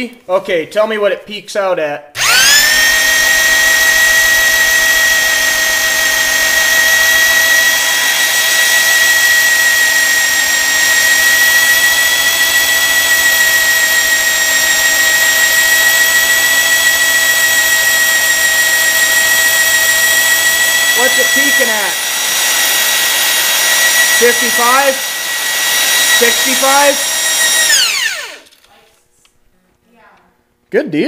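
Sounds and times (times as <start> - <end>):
electric drill whining: 2.2 - 28.6.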